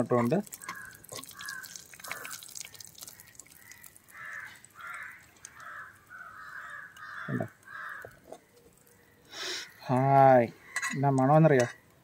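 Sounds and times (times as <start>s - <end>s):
bird cawing: 0.5s - 11.1s.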